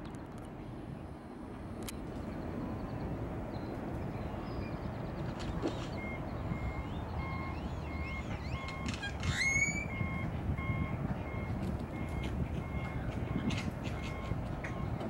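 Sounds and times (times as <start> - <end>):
vehicle reversing alarm beeping: 1.9 - 15.0.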